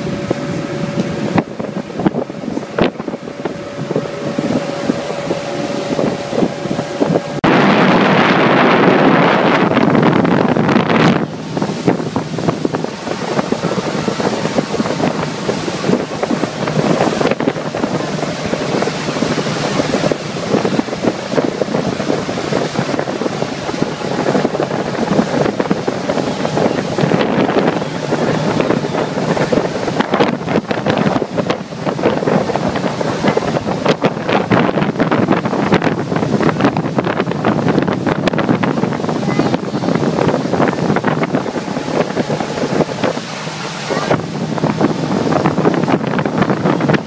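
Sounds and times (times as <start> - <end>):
speedboat engine running: 0.0 - 47.0
water rushing past hull: 0.0 - 47.0
wind buffeting microphone: 0.0 - 47.0.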